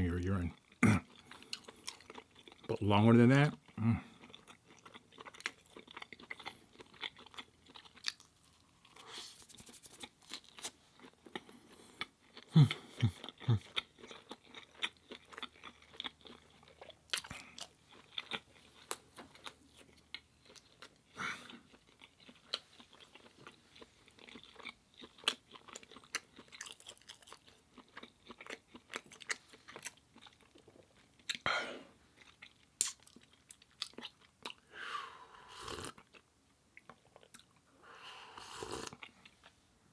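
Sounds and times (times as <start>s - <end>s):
person chewing food: 0.5s - 2.8s, 3.5s - 39.6s.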